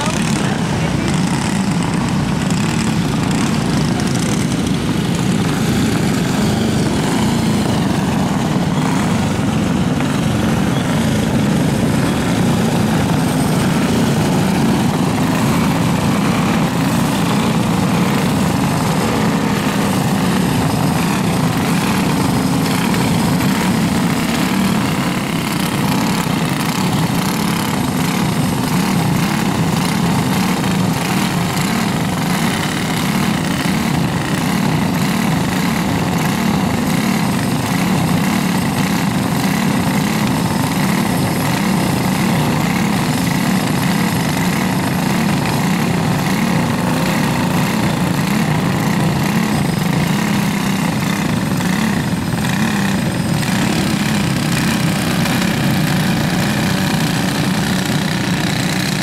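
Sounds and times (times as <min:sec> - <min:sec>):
go-kart engines buzzing: 0:00.0 - 0:59.0.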